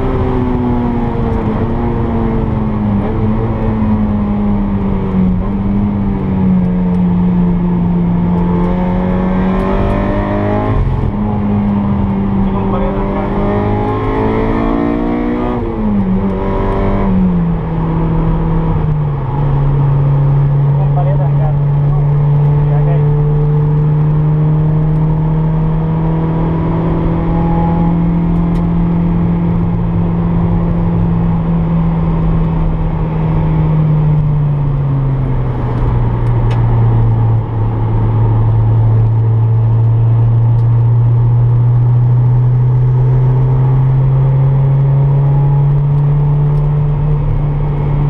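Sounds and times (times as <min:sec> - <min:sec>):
car engine from inside cabin: 0:00.0 - 0:48.0.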